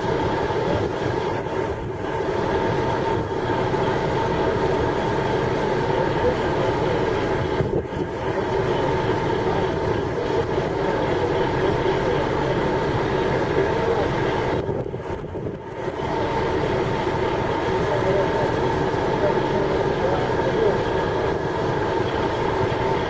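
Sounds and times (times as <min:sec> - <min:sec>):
shunting machinery rumble: 0:00.0 - 0:23.0.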